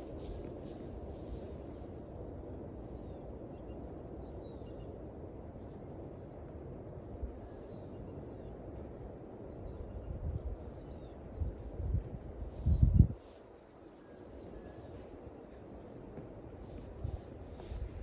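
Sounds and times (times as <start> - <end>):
low outdoor rushing noise: 0.0 - 18.0.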